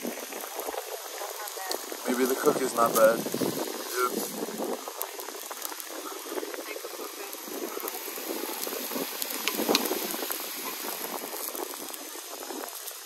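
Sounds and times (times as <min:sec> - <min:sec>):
broth bubbling: 0:00.0 - 0:13.0
meat sizzling on a grill: 0:00.0 - 0:13.0.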